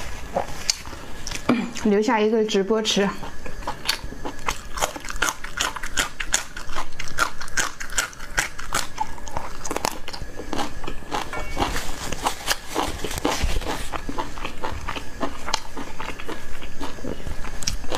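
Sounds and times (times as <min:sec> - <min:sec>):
person chewing crisp vegetable: 0:00.0 - 0:01.9, 0:03.2 - 0:17.9.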